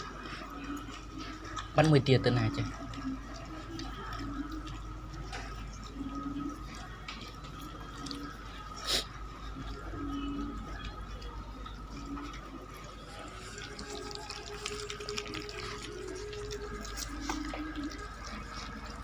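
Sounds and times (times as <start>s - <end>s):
puppies chewing and smacking: 0.0s - 19.0s.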